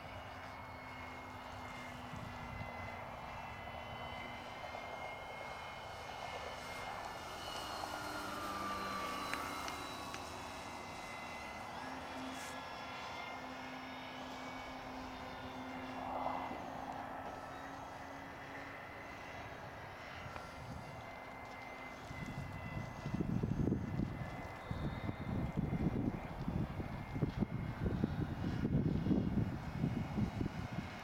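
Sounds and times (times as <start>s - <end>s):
propeller plane engine drone: 0.0s - 31.0s.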